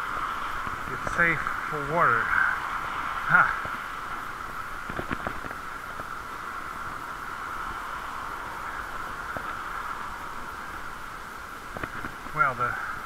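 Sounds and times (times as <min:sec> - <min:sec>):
muffled bicycle riding hiss: 0:00.0 - 0:13.0.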